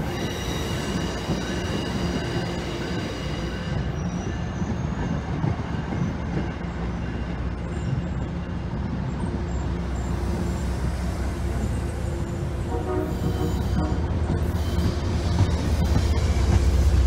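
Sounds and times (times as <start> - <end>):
train rumbling along rails: 0.0 - 17.0.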